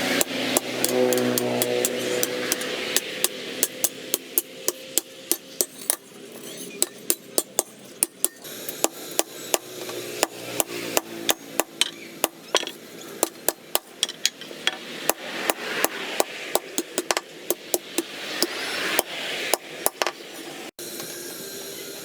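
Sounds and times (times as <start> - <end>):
hammer striking steel on anvil: 0.0 - 20.5.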